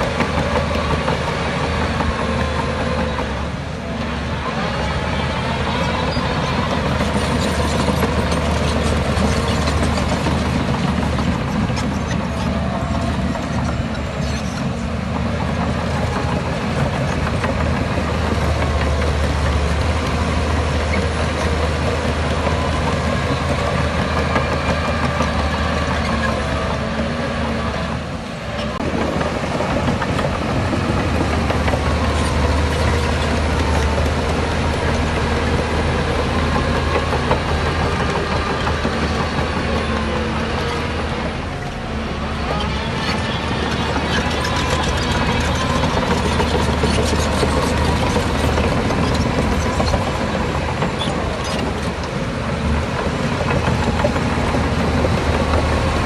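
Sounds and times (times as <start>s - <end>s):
heavy diesel machinery engine drone: 0.0s - 56.0s.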